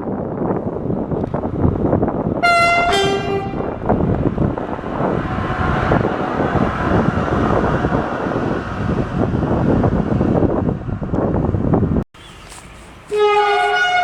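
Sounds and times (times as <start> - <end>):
wind buffeting microphone: 0.0 - 14.0
train passing: 0.4 - 14.0.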